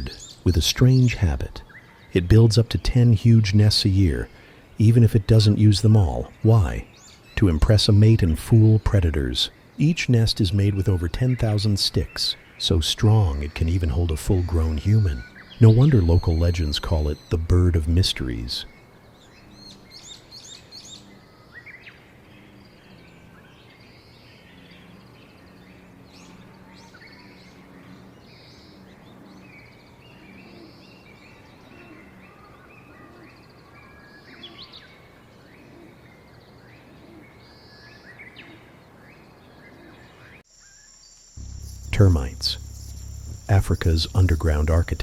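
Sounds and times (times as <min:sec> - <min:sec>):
low steady outdoor hum: 0:00.0 - 0:45.0
wild birds chirping: 0:00.0 - 0:45.0.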